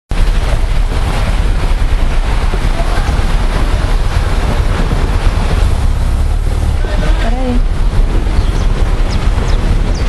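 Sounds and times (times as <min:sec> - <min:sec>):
loud steady rumbling: 0:00.1 - 0:10.0.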